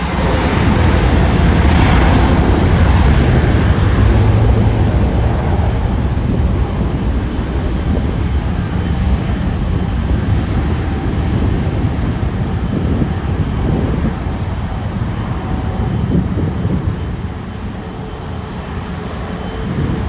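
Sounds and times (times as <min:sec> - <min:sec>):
jet airliner roar: 0:00.0 - 0:20.0.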